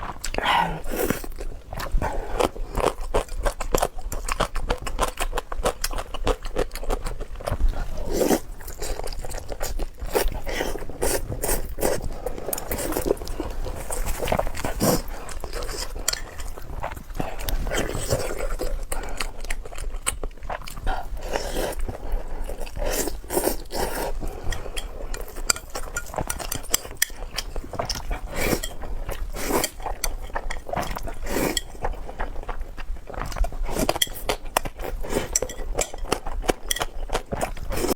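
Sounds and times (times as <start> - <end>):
biting and chewing: 0.0 - 37.9.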